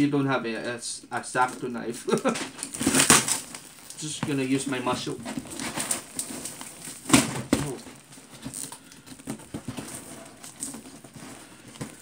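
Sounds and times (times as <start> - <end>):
tape and cardboard rustling: 1.2 - 12.0
packing tape tearing: 1.4 - 12.0.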